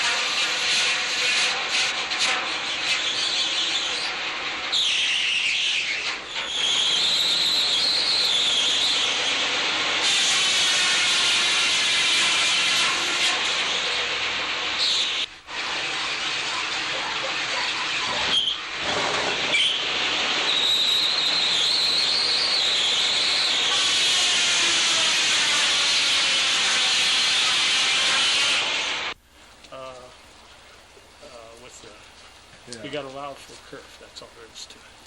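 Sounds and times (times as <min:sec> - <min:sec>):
saw whining through wood: 0:00.0 - 0:29.2
sawmill machinery running: 0:00.0 - 0:29.2.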